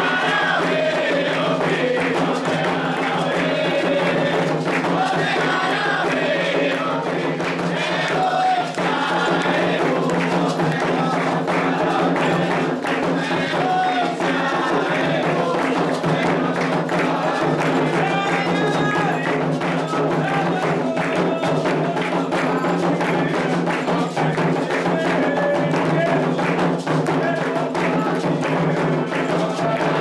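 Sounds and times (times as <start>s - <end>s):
hand drums playing ritual rhythm: 0.0s - 30.0s
voices singing a chant: 0.0s - 30.0s.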